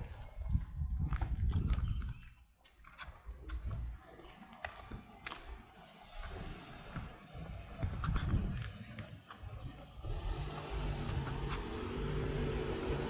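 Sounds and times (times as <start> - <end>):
footsteps on pavement: 0.0 - 13.0.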